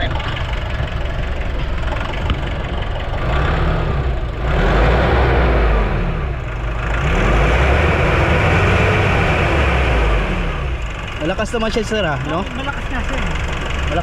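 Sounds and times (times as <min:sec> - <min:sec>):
van engine revving: 0:00.0 - 0:14.0.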